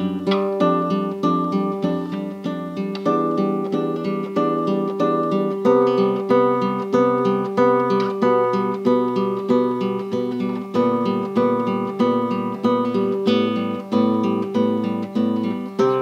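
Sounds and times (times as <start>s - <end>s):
nylon-string guitar strumming chords: 0.0s - 16.0s.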